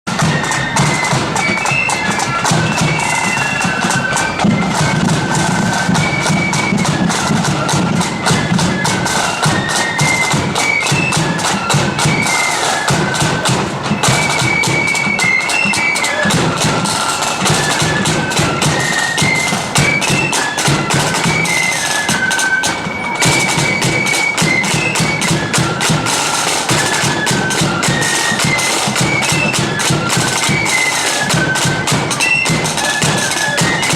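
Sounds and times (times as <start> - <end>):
marching band playing: 0.1 - 33.9
rapid drumming: 0.1 - 33.9.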